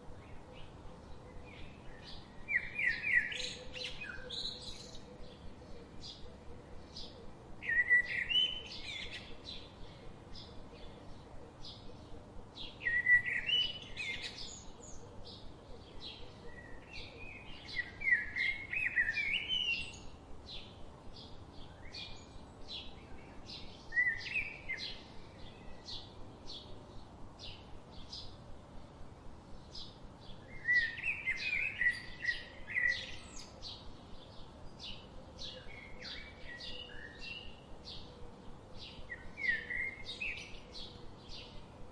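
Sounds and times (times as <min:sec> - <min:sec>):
songbirds chirping: 0:00.0 - 0:41.9
bird warbling song: 0:00.1 - 0:28.4, 0:29.5 - 0:41.9.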